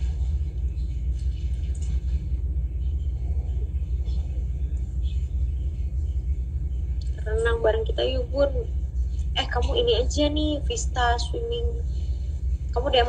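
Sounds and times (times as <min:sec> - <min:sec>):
steady deep rumble: 0:00.0 - 0:13.0.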